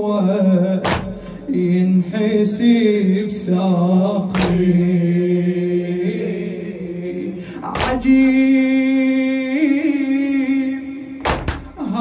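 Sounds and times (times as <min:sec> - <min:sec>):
man chanting a lament: 0:00.0 - 0:12.0.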